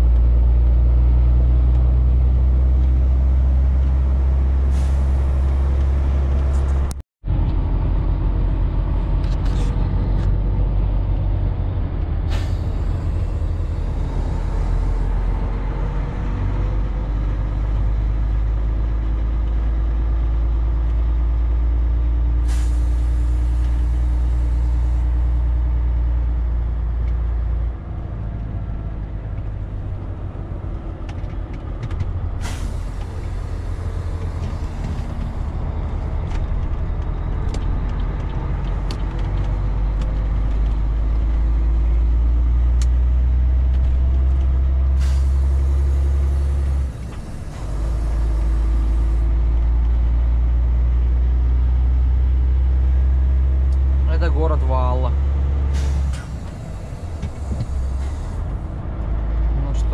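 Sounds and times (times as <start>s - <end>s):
truck diesel engine rumble: 0.0s - 59.9s.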